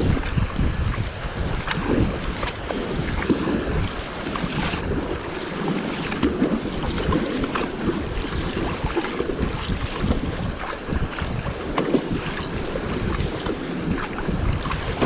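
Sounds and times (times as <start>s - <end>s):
paddle blades splashing: 0.0s - 15.0s
water sloshing along hull: 0.0s - 15.0s
wind buffeting microphone: 0.0s - 15.0s.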